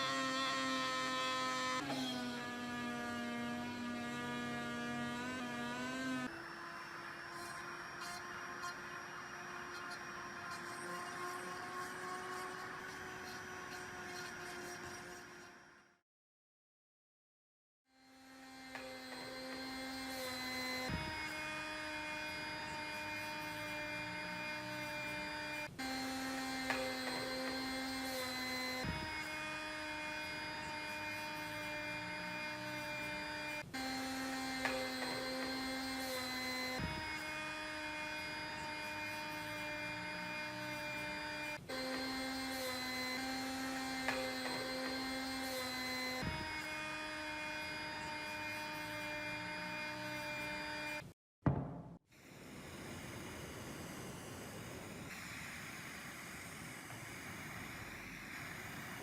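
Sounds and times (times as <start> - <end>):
electric motor humming: 0.0 - 15.7, 18.0 - 51.0.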